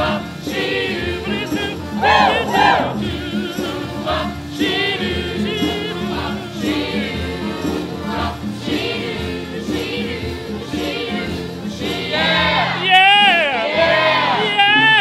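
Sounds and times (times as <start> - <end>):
accompaniment with steady beat: 0.0 - 15.0
group of voices singing: 0.0 - 15.0.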